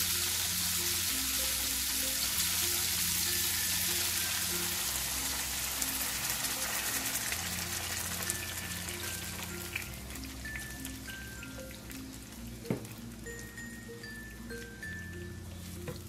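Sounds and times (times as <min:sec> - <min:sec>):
food sizzling in oil: 0:00.0 - 0:16.0
light background music: 0:00.0 - 0:16.0.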